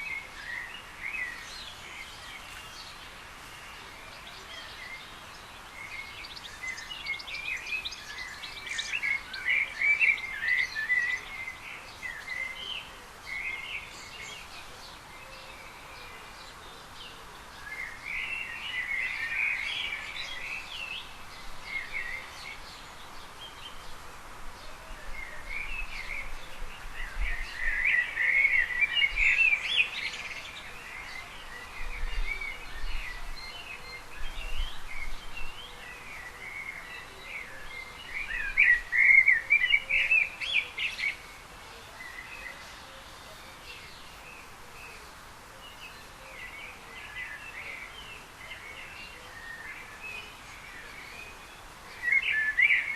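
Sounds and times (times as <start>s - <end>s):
outdoor background hiss: 0.0s - 52.9s
small birds chirping: 0.0s - 52.9s.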